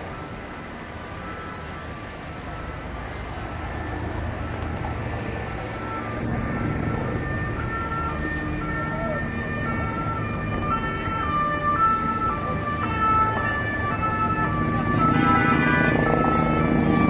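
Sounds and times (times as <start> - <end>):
rumble of engines and traffic: 0.0 - 17.0
two-tone emergency sirens: 0.0 - 17.0.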